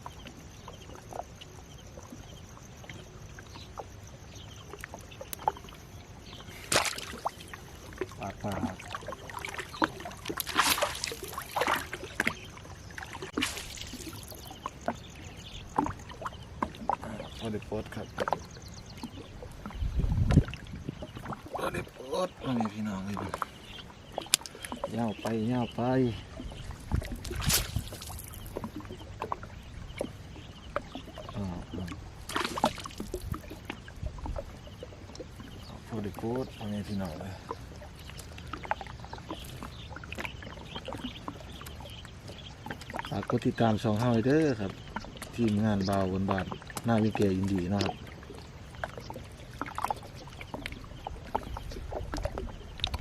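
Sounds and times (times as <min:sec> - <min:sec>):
water splashing and dripping: 0:02.8 - 0:53.0.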